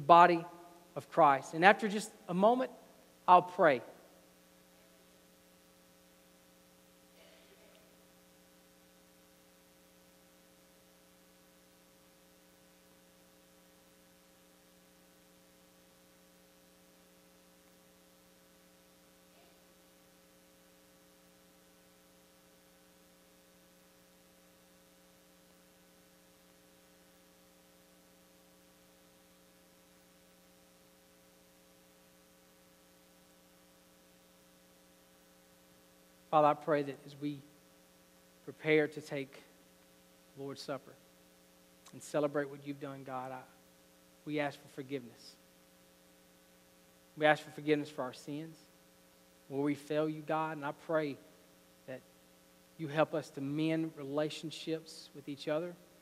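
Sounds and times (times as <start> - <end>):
faint electrical hum: 0.0 - 56.0.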